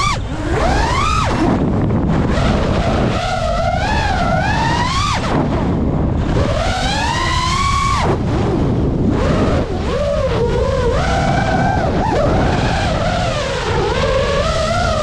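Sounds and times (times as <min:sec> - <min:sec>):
drone motors whining: 0:00.0 - 0:15.0
wind rumble on microphone: 0:00.0 - 0:15.0.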